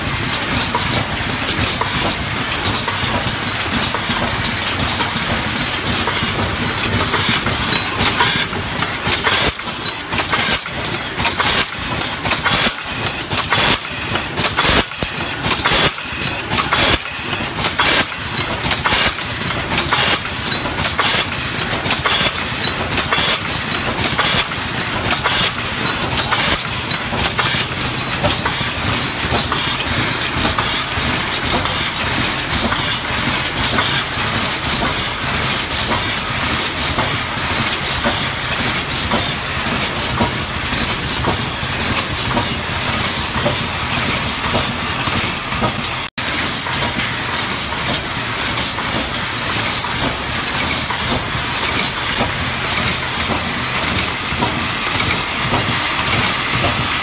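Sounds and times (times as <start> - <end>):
hissing filling machine: 0.0 - 57.0.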